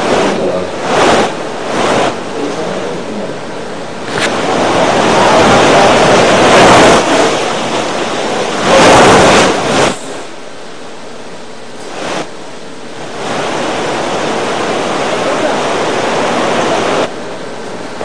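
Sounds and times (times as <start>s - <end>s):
gusting wind: 0.0s - 18.0s
heavy rain pouring: 0.0s - 18.0s.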